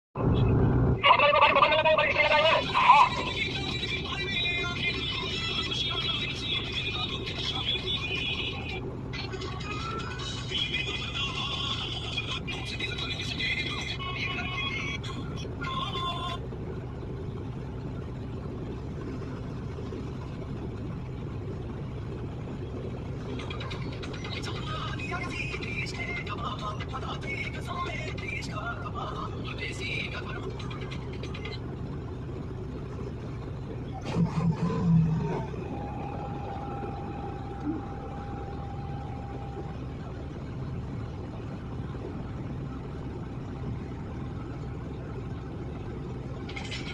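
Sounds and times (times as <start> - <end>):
diesel engine rumbling: 0.2 - 46.9
faint steady tone: 2.5 - 46.6.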